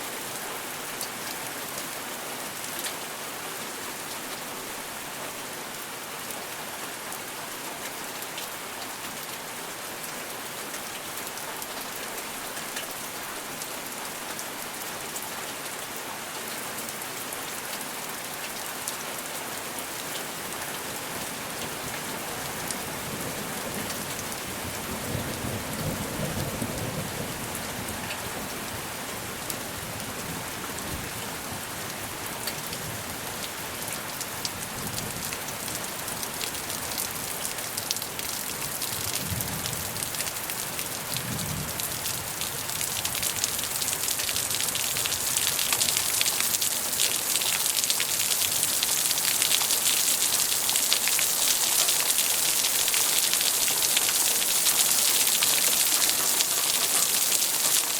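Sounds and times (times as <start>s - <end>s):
steady rain on surfaces: 0.0s - 57.9s.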